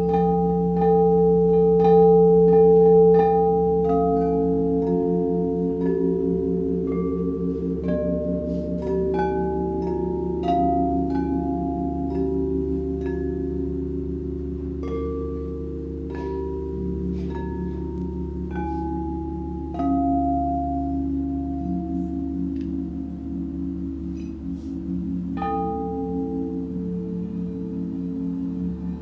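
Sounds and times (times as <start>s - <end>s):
crystal singing bowls ringing: 0.0s - 29.0s.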